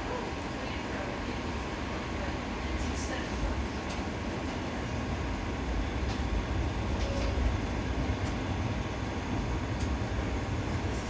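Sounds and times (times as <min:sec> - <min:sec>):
streetcar wheels rumbling on rail: 0:00.0 - 0:11.0.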